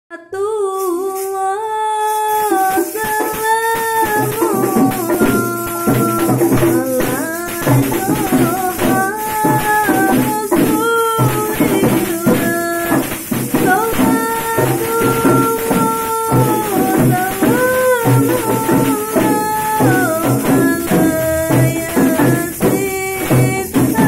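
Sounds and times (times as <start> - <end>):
person singing: 0.1 - 24.0
drum and jingling percussion: 0.8 - 1.4, 2.0 - 24.0.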